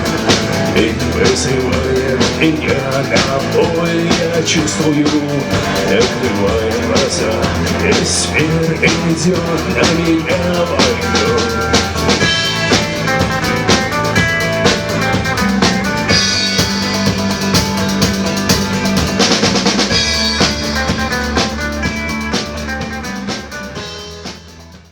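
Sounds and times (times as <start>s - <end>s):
drum kit beat: 0.0s - 24.9s
live rock band playing: 0.0s - 24.9s.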